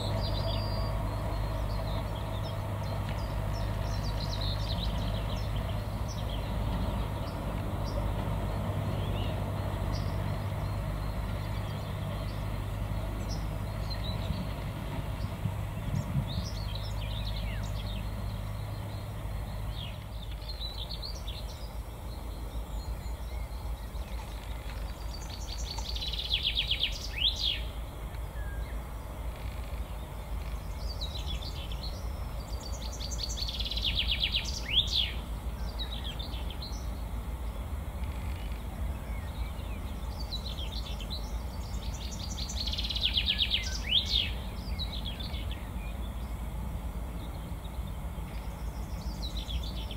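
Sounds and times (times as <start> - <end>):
songbird trilling: 0.0 - 14.6, 15.2 - 46.4
low steady rumble: 0.0 - 49.9.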